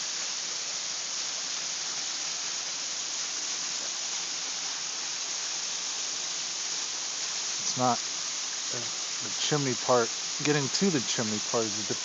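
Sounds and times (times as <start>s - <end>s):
waterfall hissing: 0.0s - 12.0s.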